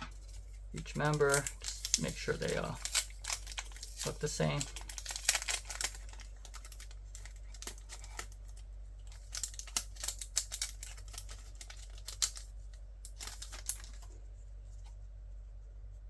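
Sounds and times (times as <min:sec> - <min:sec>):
plastic packaging crinkling: 0:00.1 - 0:14.1.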